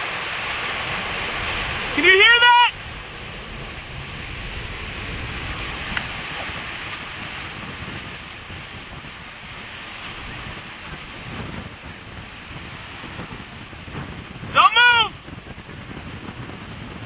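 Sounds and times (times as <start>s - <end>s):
tornado roaring: 0.0s - 17.0s
wind on microphone: 0.0s - 17.0s.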